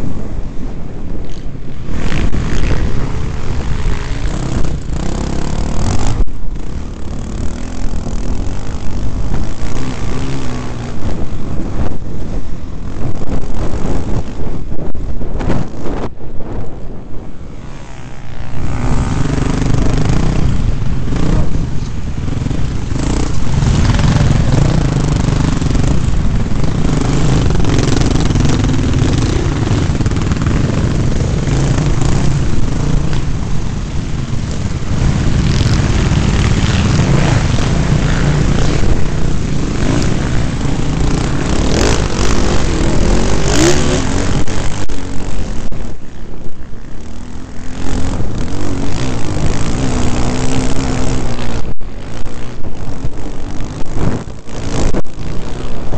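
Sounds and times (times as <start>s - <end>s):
dirt bike engine revving: 0.0s - 16.1s, 17.4s - 55.9s
other dirt bikes nearby: 0.0s - 55.9s.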